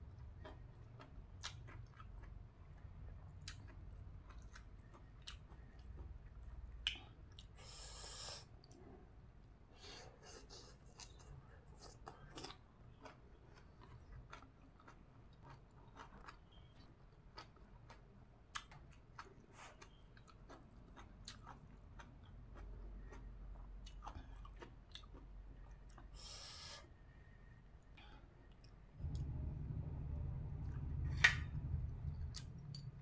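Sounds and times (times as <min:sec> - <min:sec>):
person chewing with wet clicks: 0:00.0 - 0:07.7, 0:10.2 - 0:26.4, 0:27.8 - 0:29.5, 0:30.6 - 0:33.0.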